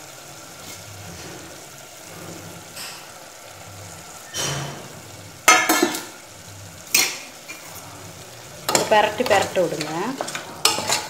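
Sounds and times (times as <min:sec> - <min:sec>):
liver frying with low sizzle: 0:00.0 - 0:11.0.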